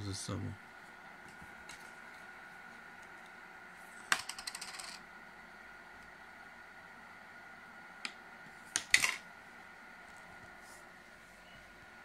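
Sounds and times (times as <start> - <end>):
air blower fan humming: 0.0 - 12.0.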